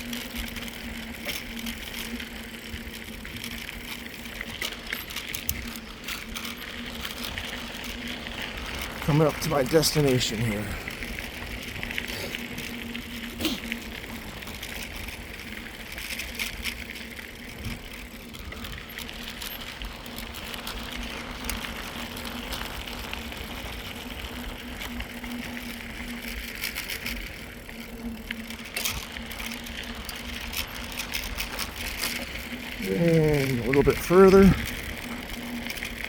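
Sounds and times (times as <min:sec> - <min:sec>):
bike rattles and clicks: 0:00.0 - 0:36.0
bike tyres rumbling on trail: 0:00.0 - 0:36.0.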